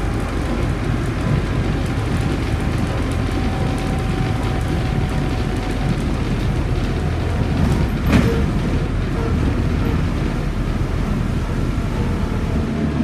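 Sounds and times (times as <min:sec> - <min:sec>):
trolleybus low rumble: 0:00.0 - 0:13.0.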